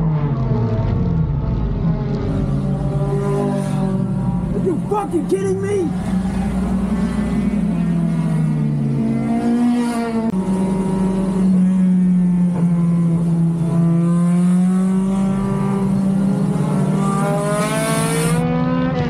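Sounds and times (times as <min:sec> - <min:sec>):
race car engine from inside cabin: 0:00.0 - 0:19.0.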